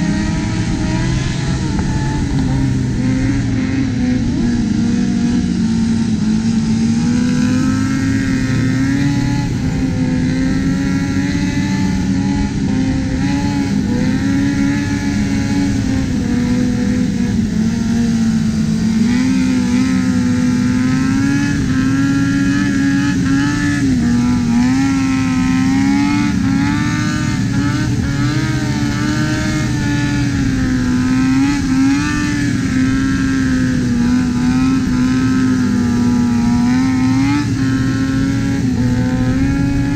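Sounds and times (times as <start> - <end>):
road and wind noise: 0.0 - 39.9
sport-bike engines revving high: 0.0 - 39.9.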